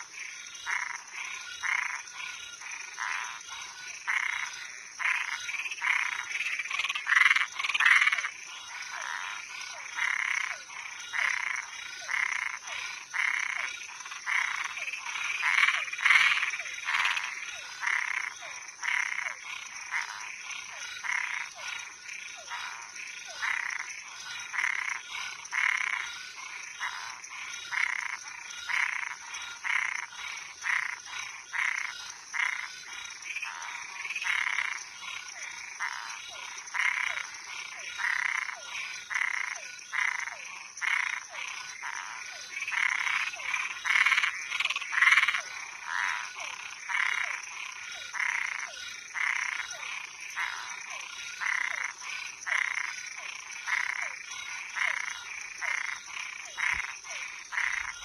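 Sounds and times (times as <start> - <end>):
frogs croaking: 0.0 - 58.0.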